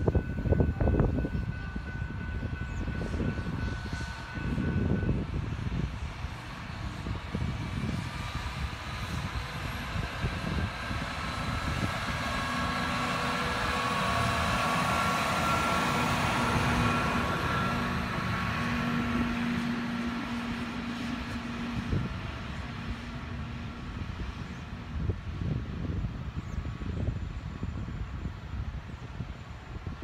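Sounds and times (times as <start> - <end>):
rail machine passing: 0.0 - 30.0.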